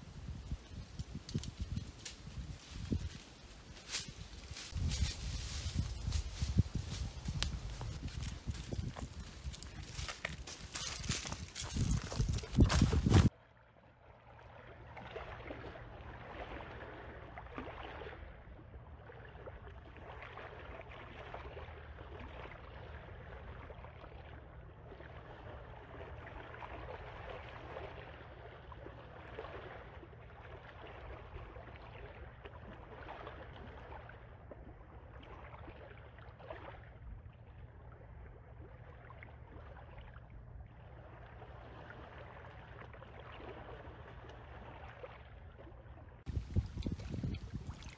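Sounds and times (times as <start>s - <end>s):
shallow water sloshing from wading: 4.4s - 47.9s.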